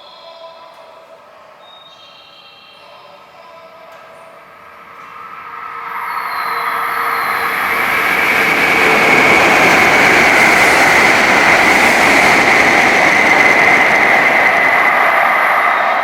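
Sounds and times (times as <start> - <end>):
train whine: 0.0 - 16.0
high-speed train passing: 2.9 - 16.0.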